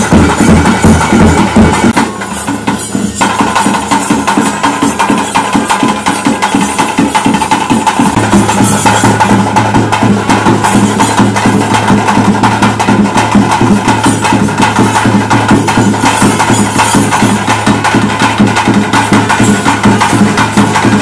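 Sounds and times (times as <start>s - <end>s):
fast dense drumming: 0.0s - 21.0s.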